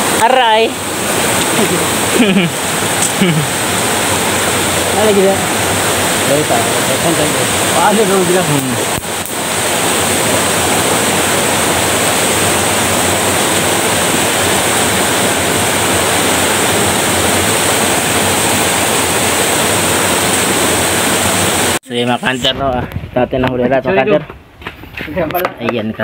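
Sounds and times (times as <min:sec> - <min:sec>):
stream rushing over rocks: 0:00.0 - 0:22.5.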